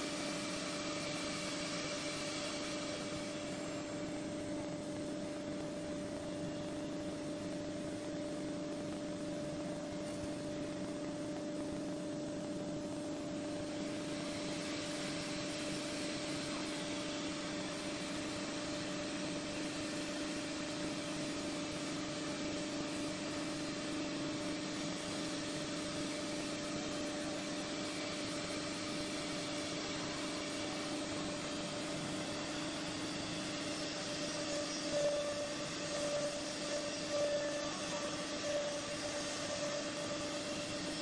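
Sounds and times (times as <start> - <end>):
cnc router running: 0.0 - 41.0.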